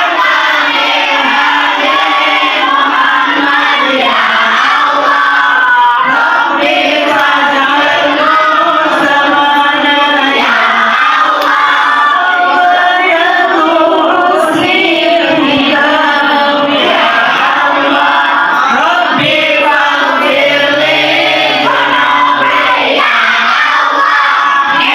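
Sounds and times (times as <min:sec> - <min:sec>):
group singing in unison: 0:00.0 - 0:24.9.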